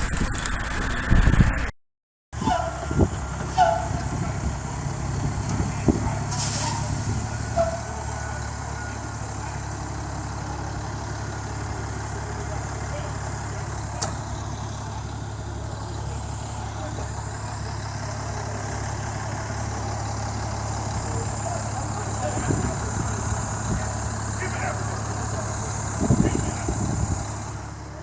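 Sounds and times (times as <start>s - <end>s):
truck engine idling: 2.4s - 28.0s.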